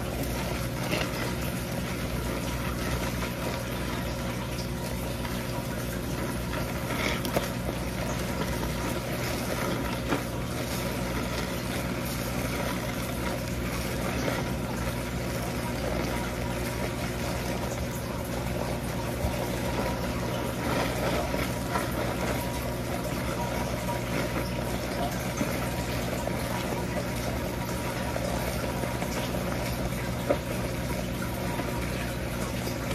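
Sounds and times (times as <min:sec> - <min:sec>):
rushing water noise: 0:00.0 - 0:32.9
steady mechanical hum: 0:00.0 - 0:32.9.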